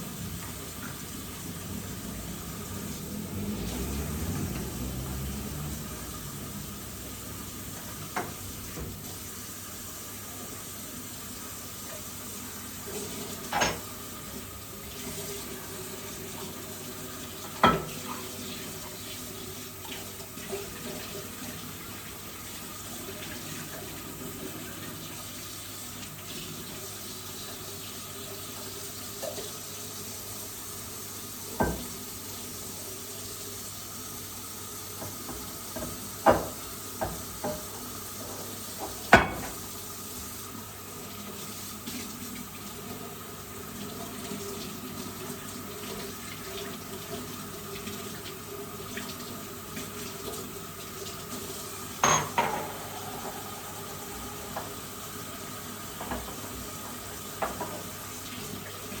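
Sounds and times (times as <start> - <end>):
water running from tap into sink: 0.0 - 59.0.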